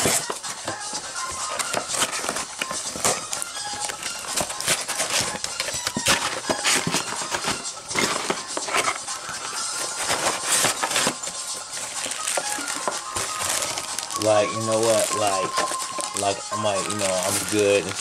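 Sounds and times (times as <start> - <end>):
plastic and cardboard packaging rustling: 0.0 - 18.0.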